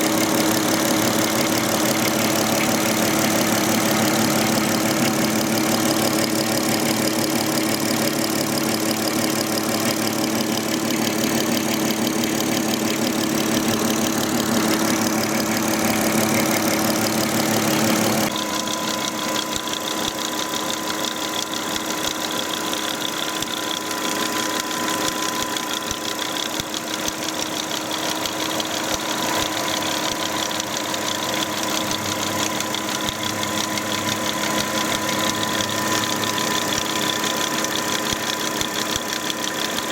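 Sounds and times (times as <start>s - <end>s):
car engine idling: 0.0s - 39.9s
strange engine noise: 0.0s - 39.9s.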